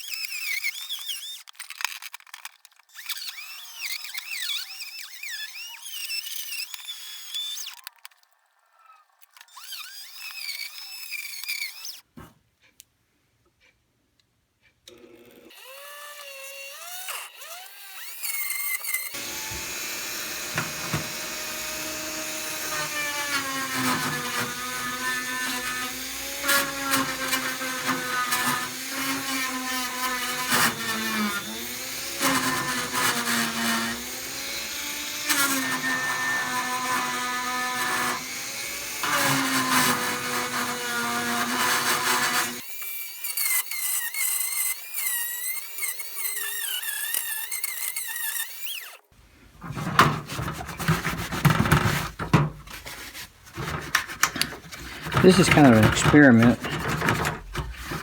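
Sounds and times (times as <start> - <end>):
rotary tool whining: 0.0 - 12.1, 14.9 - 58.0.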